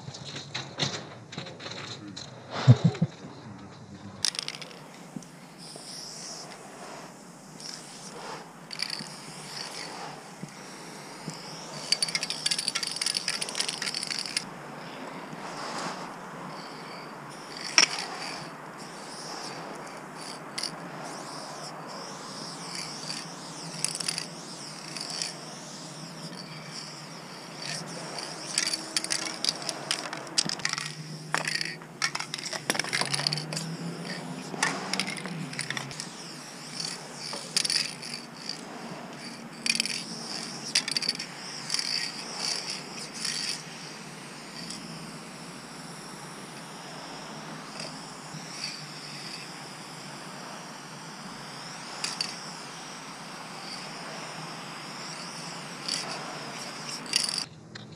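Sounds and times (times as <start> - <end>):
spray can hissing: 4.2 - 57.5
spray can clicks and rattles: 4.2 - 57.9.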